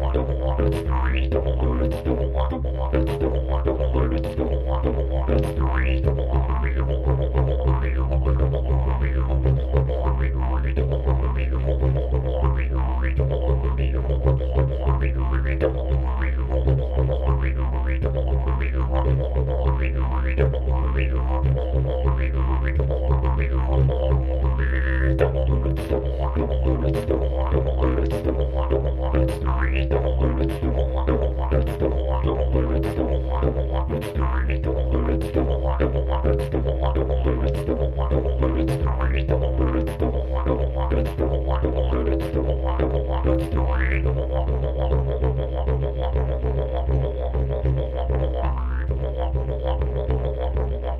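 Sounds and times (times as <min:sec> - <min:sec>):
didgeridoo drone: 0:00.0 - 0:50.9.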